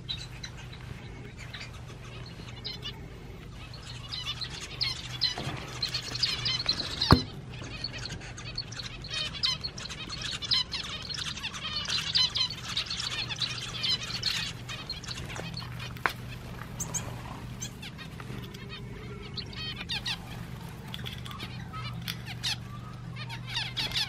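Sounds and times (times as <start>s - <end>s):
finches chirping: 0.0s - 24.0s
steady low hum: 0.0s - 24.0s.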